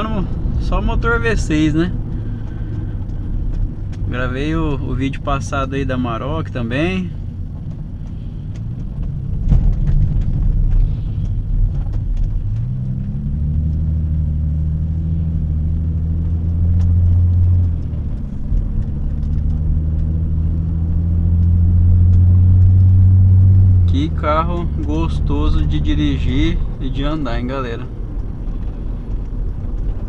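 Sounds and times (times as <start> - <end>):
car engine droning inside cabin: 0.0 - 30.0.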